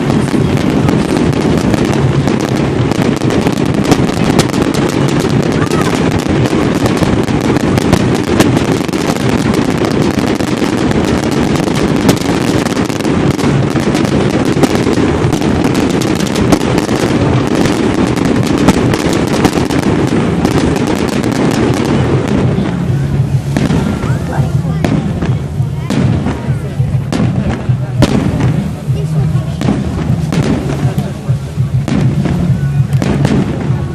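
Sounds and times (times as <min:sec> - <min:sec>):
fireworks crackling and banging: 0:00.0 - 0:33.9.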